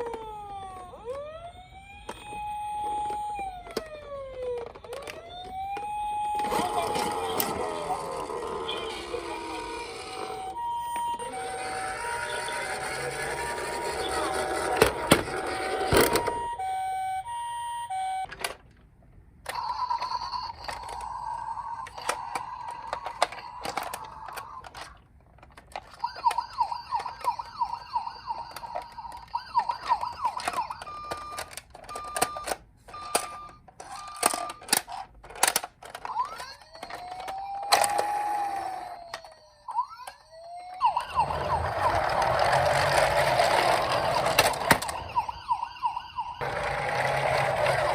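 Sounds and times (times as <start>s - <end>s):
toy electronic sirens: 0.0s - 18.6s, 19.4s - 47.9s.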